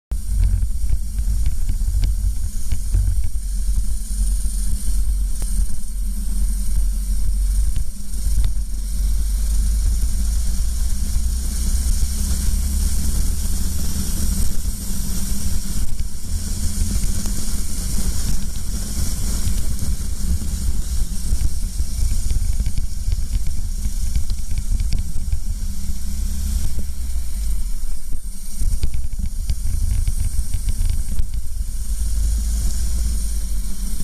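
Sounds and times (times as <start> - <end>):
steady high hiss: 0.1 - 34.0
wind rumble on microphone: 0.1 - 34.0.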